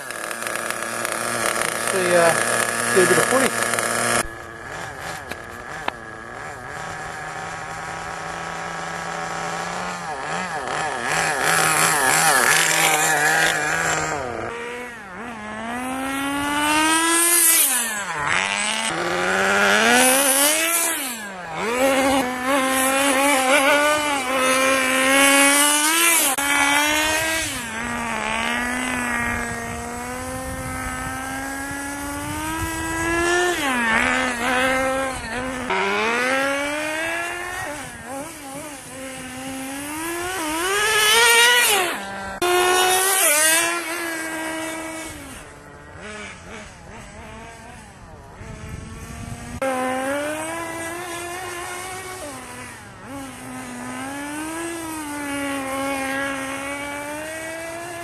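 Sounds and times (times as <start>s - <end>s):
model car nitro engine revving: 0.0s - 58.0s.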